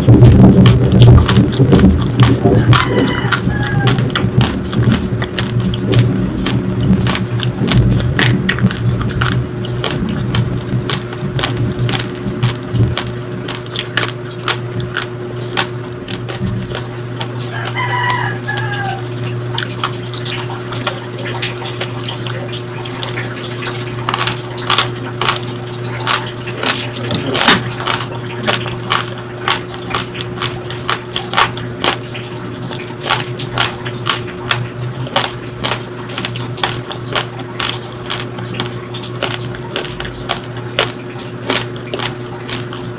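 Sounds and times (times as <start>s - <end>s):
rice grains crunched between teeth: 0.0s - 42.9s
steady low hum: 0.0s - 42.9s.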